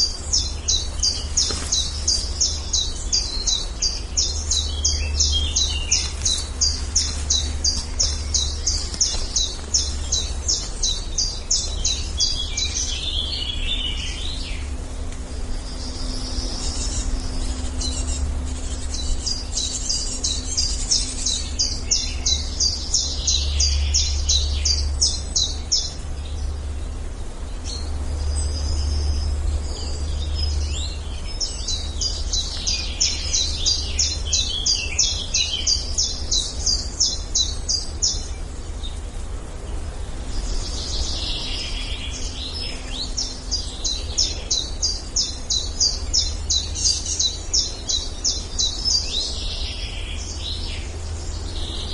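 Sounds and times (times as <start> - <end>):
steady low rumble: 0.0 - 51.9.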